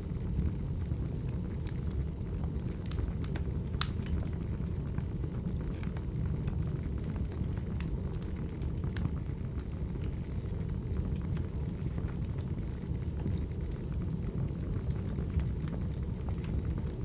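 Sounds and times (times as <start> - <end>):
fire crackles and pops: 0.0 - 17.0
low fire rumble: 0.0 - 17.0.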